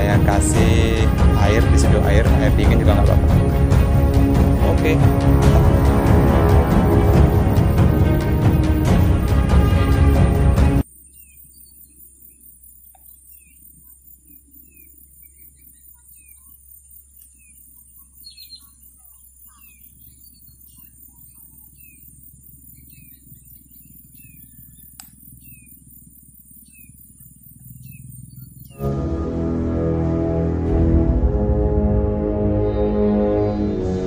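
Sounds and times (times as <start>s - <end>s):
small birds chirping: 0.0s - 28.8s.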